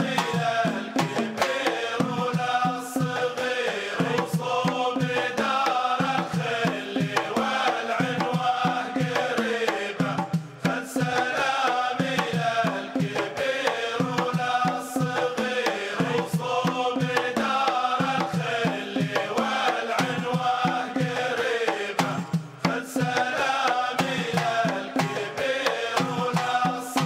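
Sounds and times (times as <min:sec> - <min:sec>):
chanted singing: 0:00.0 - 0:27.0
hand drum percussion: 0:00.0 - 0:27.0.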